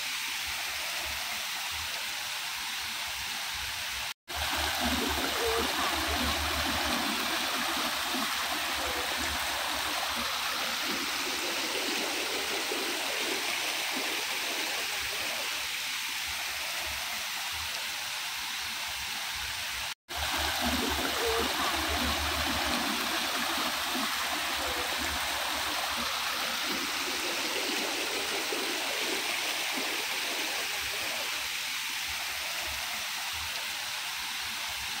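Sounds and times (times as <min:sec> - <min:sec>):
stream splashing down cascade: 0:00.0 - 0:35.0.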